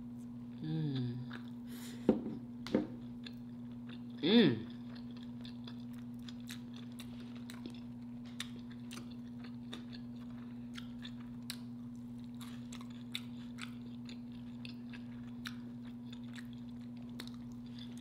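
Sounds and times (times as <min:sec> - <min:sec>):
steady low hum: 0:00.0 - 0:18.0
chewing crunchy food: 0:00.5 - 0:01.7, 0:03.0 - 0:18.0.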